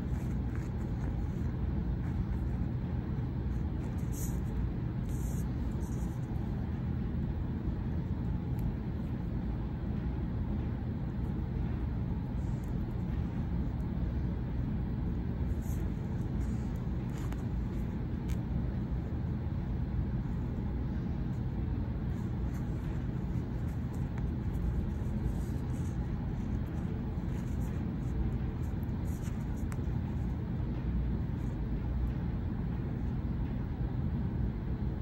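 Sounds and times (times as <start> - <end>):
needle and thread through fabric: 0.0 - 33.2
low background rumble: 0.0 - 35.0.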